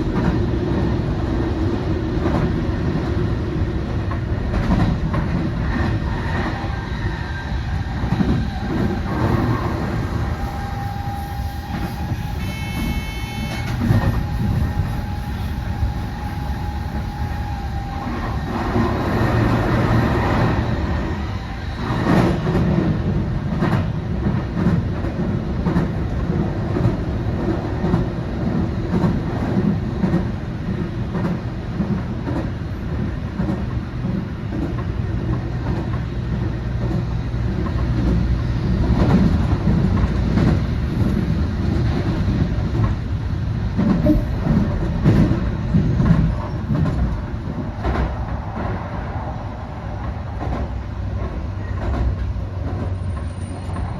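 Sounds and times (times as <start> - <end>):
train wheels clacking on rails: 0.0 - 53.9.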